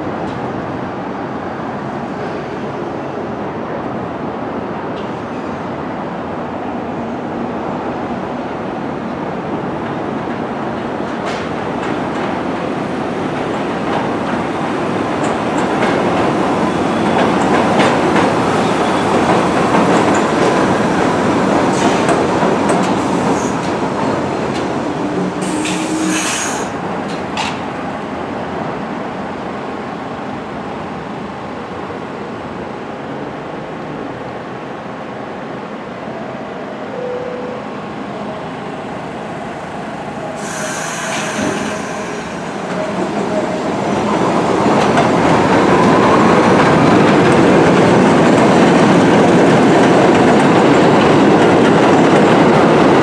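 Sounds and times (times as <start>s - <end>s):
subway train wheels rumbling and clacking: 0.0s - 53.0s.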